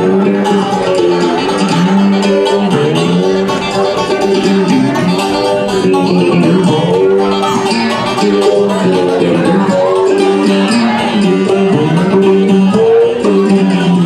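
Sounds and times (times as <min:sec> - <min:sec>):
banjo picking: 0:00.0 - 0:14.0
held notes from instruments: 0:00.0 - 0:14.0.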